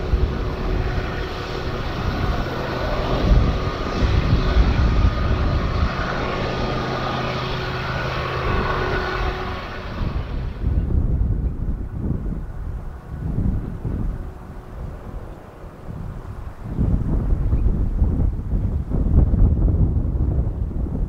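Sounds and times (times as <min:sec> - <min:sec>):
locomotive engine drone: 0:00.0 - 0:21.0
moving train rumble: 0:00.0 - 0:21.0.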